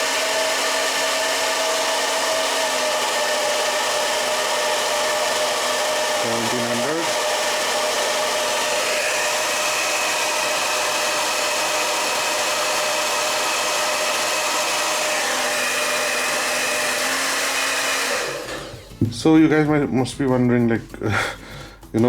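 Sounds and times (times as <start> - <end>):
hair dryer blowing: 0.0 - 19.3.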